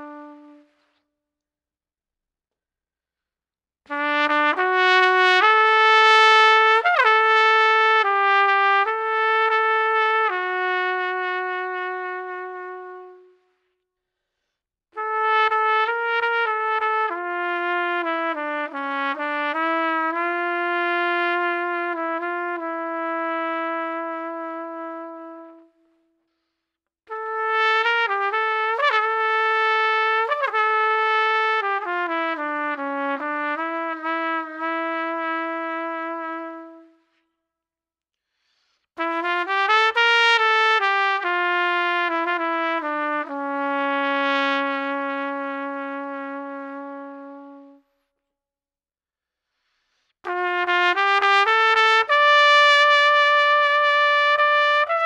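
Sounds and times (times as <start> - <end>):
trumpet playing long notes: 0.0 - 0.8, 3.9 - 13.5, 15.0 - 25.8, 27.1 - 37.0, 39.0 - 47.8, 50.2 - 55.0.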